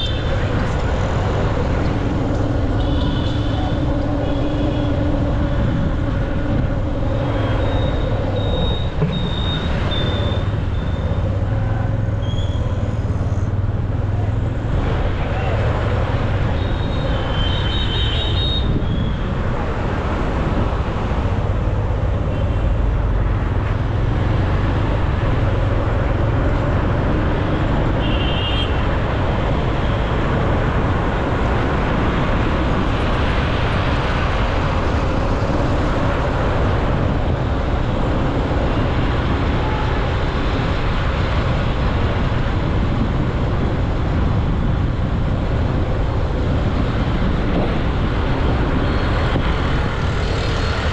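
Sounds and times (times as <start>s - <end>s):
wind and road noise: 0.0s - 50.9s.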